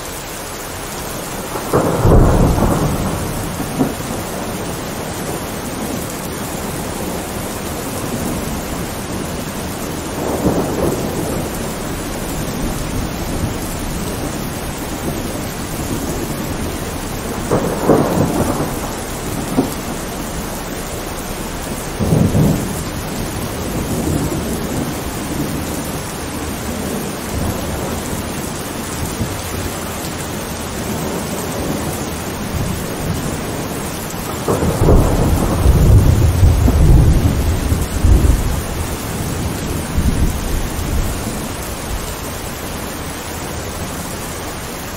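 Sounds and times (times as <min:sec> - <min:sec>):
steady rain: 0:00.0 - 0:44.9
thunder rumbling: 0:00.0 - 0:44.9.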